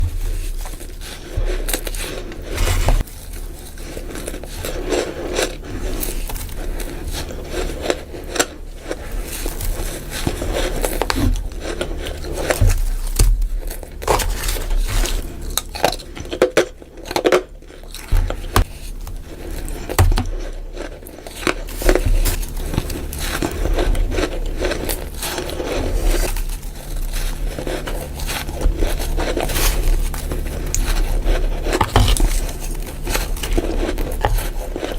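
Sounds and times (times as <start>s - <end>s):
crunching and chewing frost: 0.0s - 34.9s
steady low hum: 0.0s - 34.9s.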